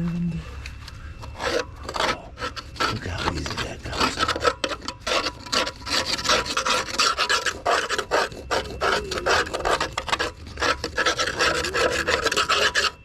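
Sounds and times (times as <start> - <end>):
screwdriver scraping mower deck: 1.2 - 13.0.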